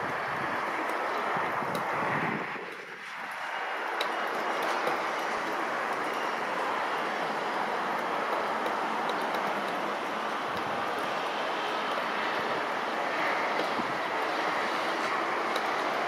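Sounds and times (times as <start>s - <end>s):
distant jet engine roar: 0.0s - 16.0s.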